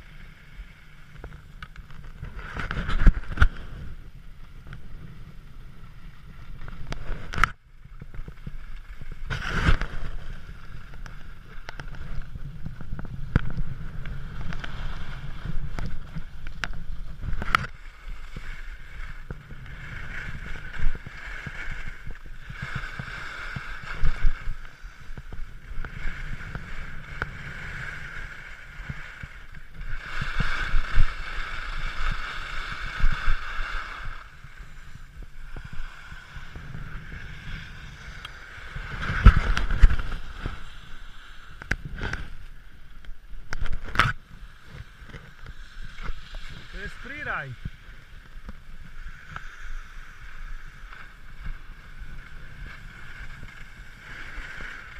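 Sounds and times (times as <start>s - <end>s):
skis scraping over snow: 0.0s - 54.9s
wind rumbling on microphone: 0.0s - 54.9s.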